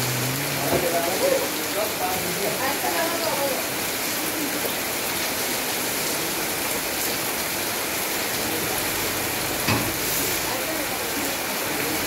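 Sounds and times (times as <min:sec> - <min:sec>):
heavy rain on tarpaulin: 0:00.0 - 0:12.0
water pouring from tarp: 0:00.0 - 0:12.0.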